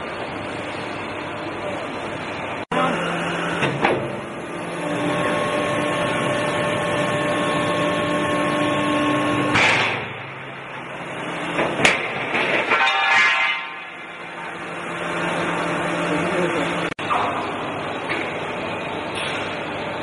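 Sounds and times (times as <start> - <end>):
hydraulic shear machine whine: 0.0 - 20.0.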